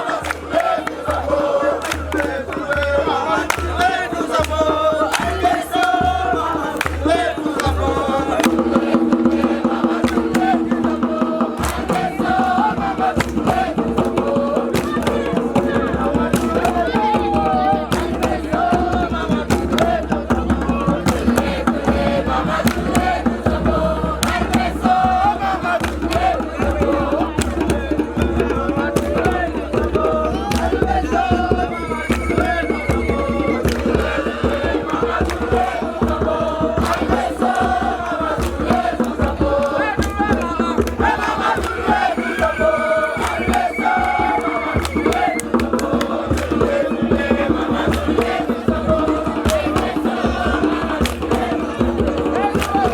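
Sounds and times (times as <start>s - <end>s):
fast percussion strikes: 0.0s - 52.9s
group of voices chanting: 0.0s - 52.9s.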